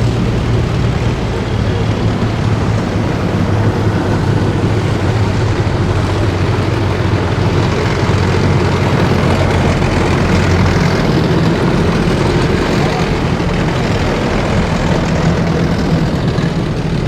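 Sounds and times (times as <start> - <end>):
heavy vehicle engines rumbling: 0.0 - 17.0.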